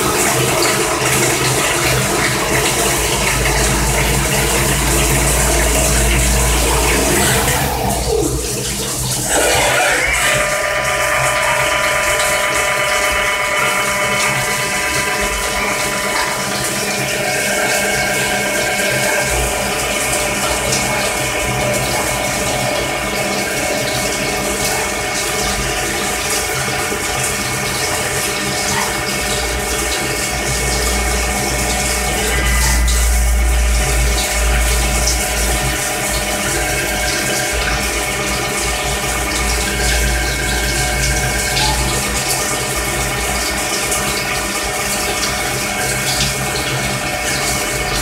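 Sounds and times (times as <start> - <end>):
lathe spindle whine: 0.0 - 28.2, 29.7 - 48.0
coolant spraying: 0.0 - 48.0.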